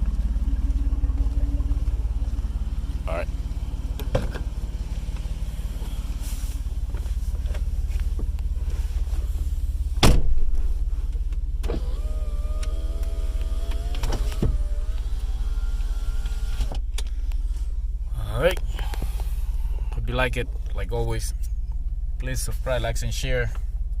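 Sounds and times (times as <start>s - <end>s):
wavering whine: 0.0s - 20.2s
car engine idling: 0.0s - 24.0s.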